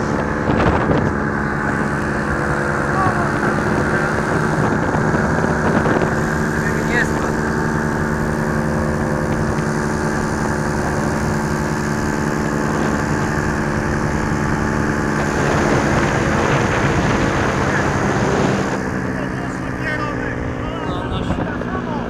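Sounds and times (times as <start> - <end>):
air rushing: 0.0 - 21.7
propeller engine buzzing hum: 0.0 - 22.0.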